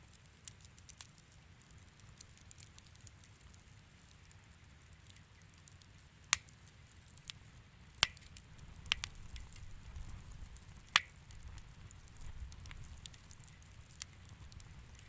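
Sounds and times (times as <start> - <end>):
sharp pops from burning logs: 0.0 - 15.0
wood fire crackling: 0.0 - 15.0.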